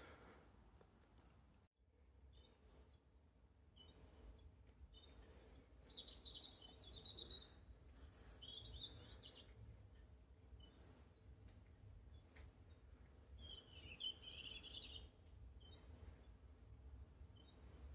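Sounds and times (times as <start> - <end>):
songbird chirping and twittering: 2.3 - 17.9.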